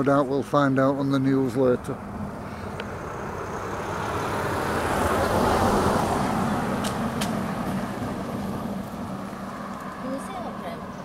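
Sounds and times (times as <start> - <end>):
car driving past: 0.9 - 11.0.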